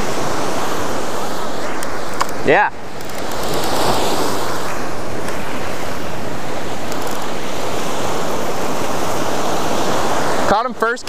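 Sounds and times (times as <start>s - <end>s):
wind on microphone: 0.0s - 10.5s
ocean surf breaking: 0.0s - 11.0s.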